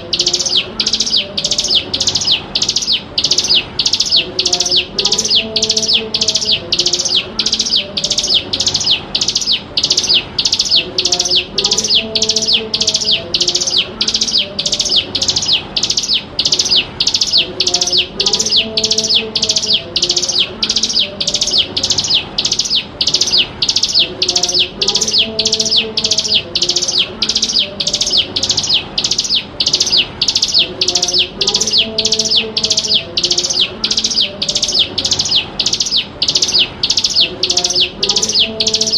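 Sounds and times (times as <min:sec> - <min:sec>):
bird singing sharp high notes: 0:00.0 - 0:38.9
faint lower bird calls: 0:00.0 - 0:38.9.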